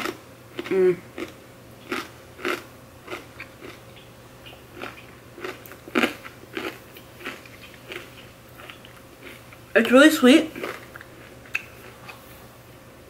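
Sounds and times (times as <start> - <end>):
chewing crisp cracker: 0.0 - 9.7, 10.5 - 12.3.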